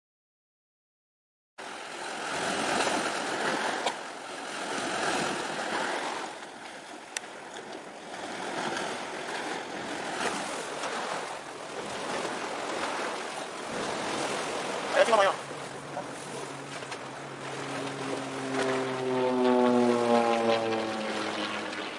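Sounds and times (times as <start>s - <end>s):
surf and wind: 1.6s - 21.8s.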